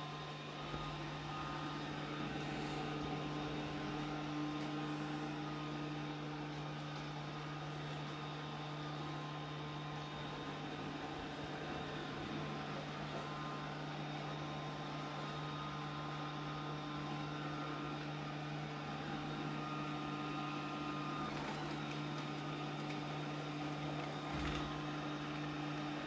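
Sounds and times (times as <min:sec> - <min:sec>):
robot vacuum cleaner running: 0:00.0 - 0:26.0.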